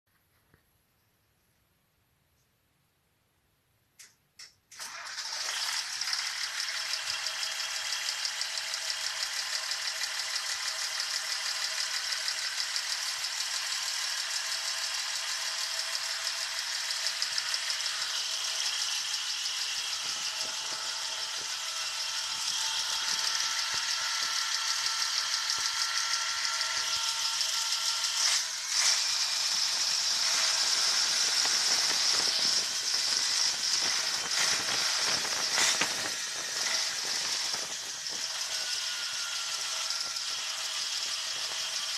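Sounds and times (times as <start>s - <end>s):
engine rattling: 4.9s - 41.9s.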